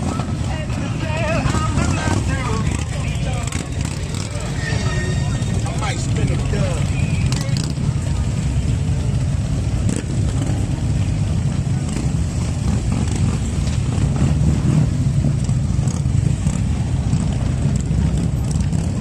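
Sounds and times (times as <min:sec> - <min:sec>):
vehicle engine low rumble: 0:00.0 - 0:19.0.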